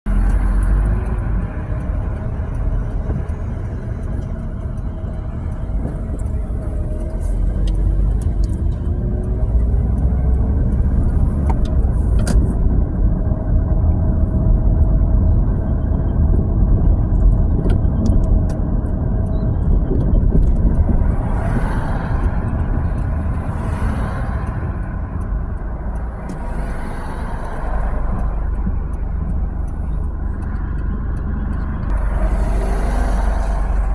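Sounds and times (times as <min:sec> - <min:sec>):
road rumble: 0:00.0 - 0:33.9
car engine hum: 0:00.1 - 0:33.9.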